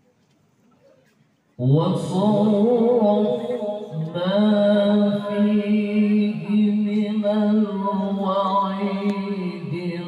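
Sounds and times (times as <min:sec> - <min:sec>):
man reciting melodically: 0:01.6 - 0:10.0.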